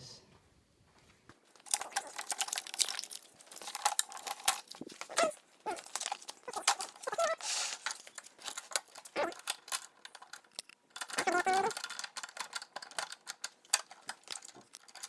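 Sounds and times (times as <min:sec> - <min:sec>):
packaging crinkling and tearing: 0:01.4 - 0:15.0
clicks and knocks: 0:01.5 - 0:15.0.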